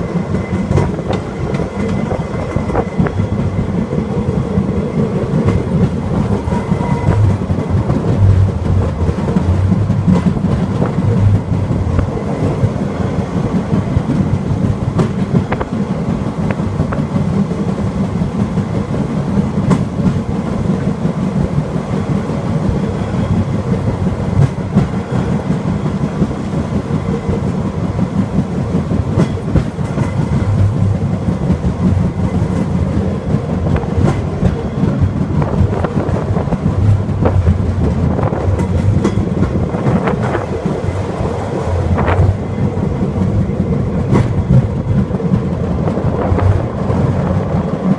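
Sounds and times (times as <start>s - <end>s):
rail cart rumbling on track: 0.0s - 47.9s.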